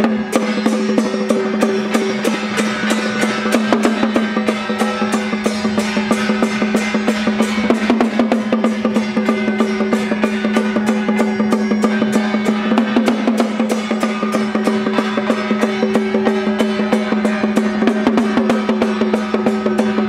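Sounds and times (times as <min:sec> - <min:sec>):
hand gongs ringing: 0:00.0 - 0:20.0
small cymbals clashing: 0:00.0 - 0:20.0
small drum beaten with sticks: 0:00.0 - 0:20.0.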